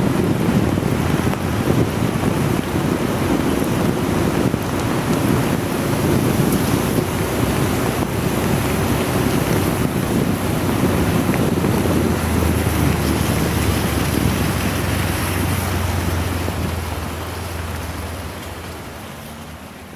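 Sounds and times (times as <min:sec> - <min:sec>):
heavy rain: 0:00.0 - 0:19.9
motorcycle engine hum: 0:00.0 - 0:19.9
wind rushing on microphone: 0:00.0 - 0:19.9.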